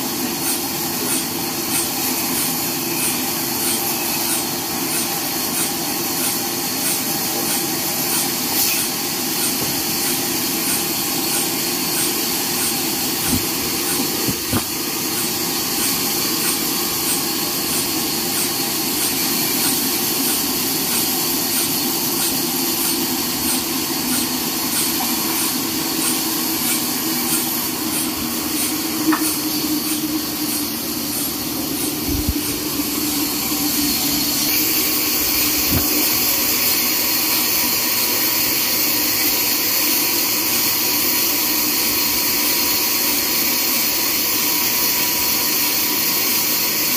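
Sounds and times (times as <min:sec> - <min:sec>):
band saw sawing log: 0:00.0 - 0:46.9.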